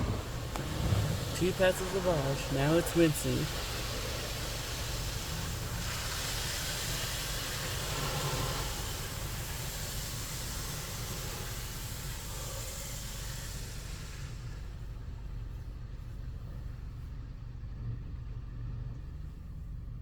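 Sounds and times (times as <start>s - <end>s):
car wash water spraying: 0.0s - 20.0s
low hum: 0.0s - 20.0s.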